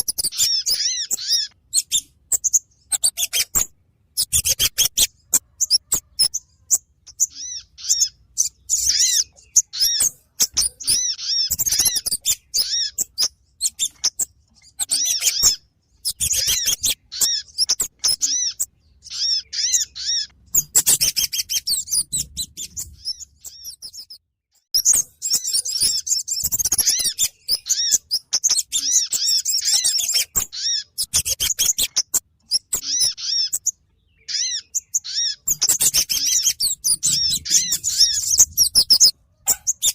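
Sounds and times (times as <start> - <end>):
recorded bird lure calls: 0.0 - 39.9.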